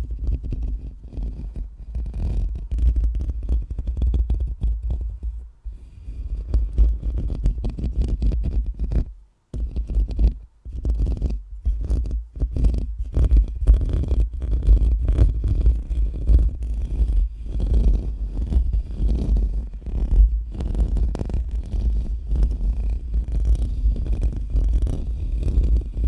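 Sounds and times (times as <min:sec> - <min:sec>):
scratching on a microphone: 0:00.0 - 0:26.0.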